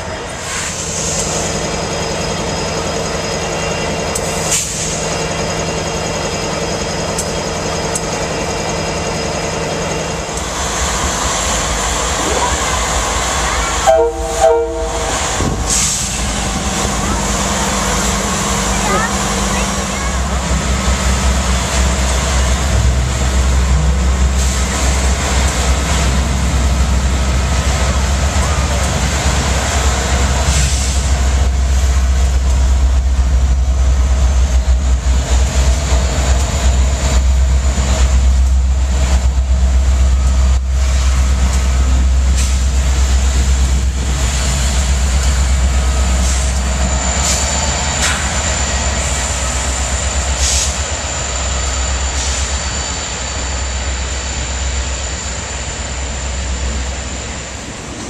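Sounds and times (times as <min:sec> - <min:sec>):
diesel locomotives rumbling: 0:00.0 - 0:58.0
train cars rolling past: 0:00.0 - 0:58.0.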